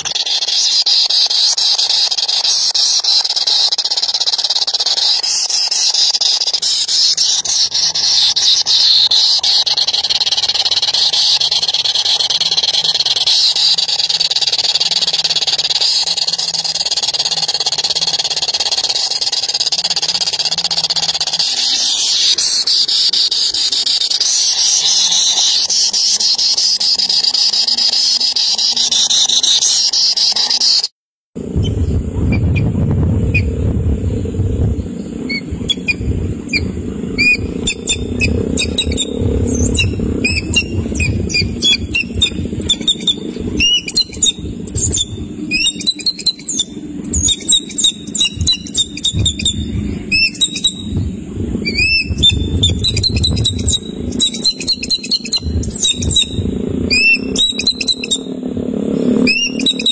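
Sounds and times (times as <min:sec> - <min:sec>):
nestlings begging calls: 0:00.0 - 0:30.9, 0:33.3 - 0:59.9.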